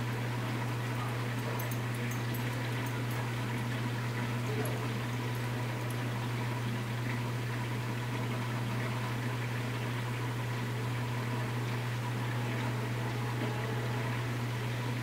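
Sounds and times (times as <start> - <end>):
aquarium pumps humming: 0.0 - 15.0
circulating water hissing: 0.0 - 15.0.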